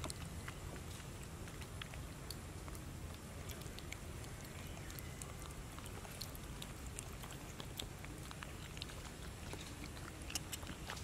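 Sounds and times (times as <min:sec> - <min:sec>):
faint ticks and clicks: 0:00.0 - 0:11.0.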